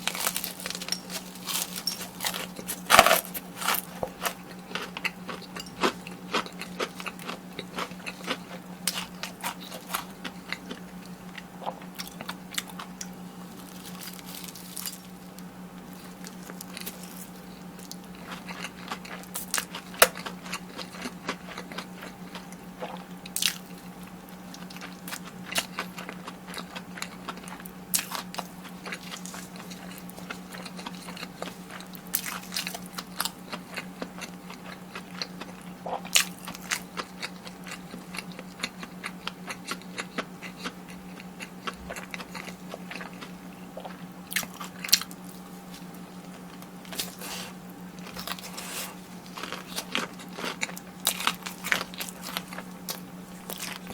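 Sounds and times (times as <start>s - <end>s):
chewing crispy fried food: 0.0s - 53.9s
steady low hum: 0.0s - 53.9s.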